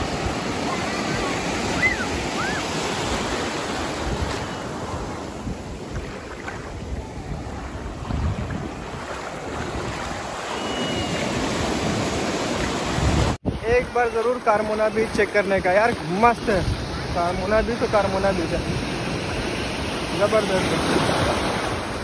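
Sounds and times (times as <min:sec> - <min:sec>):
wind buffeting microphone: 0:00.0 - 0:14.1, 0:14.9 - 0:20.1
sea surf breaking: 0:00.0 - 0:22.0.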